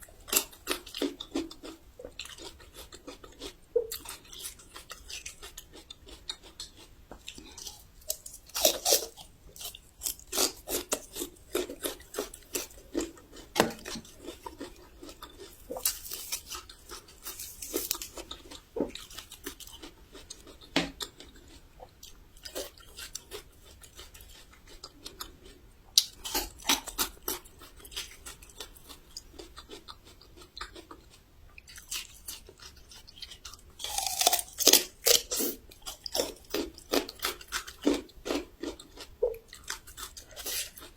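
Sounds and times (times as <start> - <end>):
quiet chewing: 0.0 - 40.9
crunching bites of ginger: 0.2 - 21.6, 22.4 - 31.0, 31.6 - 40.9.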